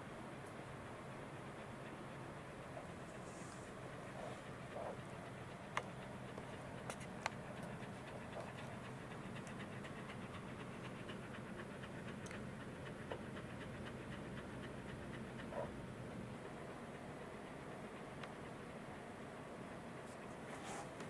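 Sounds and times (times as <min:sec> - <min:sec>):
dog panting: 0:00.9 - 0:21.0.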